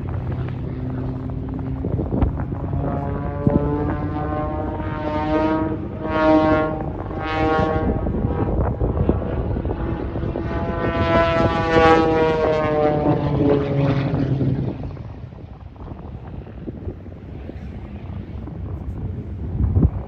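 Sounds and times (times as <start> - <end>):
propeller airplane engine: 0.0 - 20.0.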